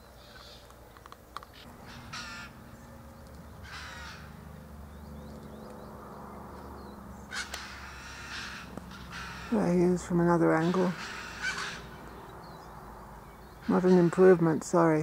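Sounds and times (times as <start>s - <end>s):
bird harsh raspy calls: 0.0s - 0.7s, 1.5s - 15.0s.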